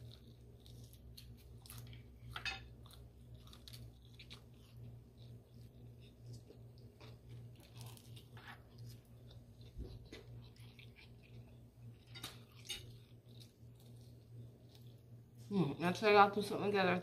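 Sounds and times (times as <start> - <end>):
person chewing food: 0.0 - 15.5
low steady hum: 0.0 - 17.0.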